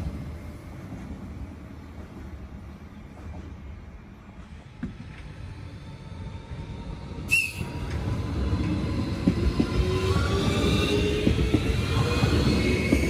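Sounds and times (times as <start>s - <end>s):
electric train rail rumble: 0.0s - 13.0s
train whine: 0.0s - 13.0s.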